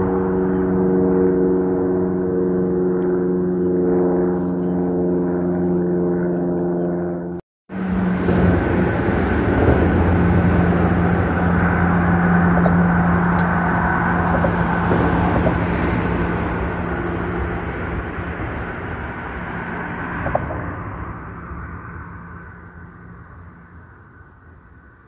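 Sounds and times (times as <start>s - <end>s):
traffic road rumble: 0.0s - 25.0s.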